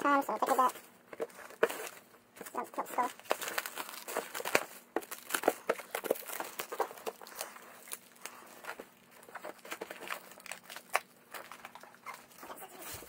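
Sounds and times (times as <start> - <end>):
plastic film crinkling: 0.2 - 13.0.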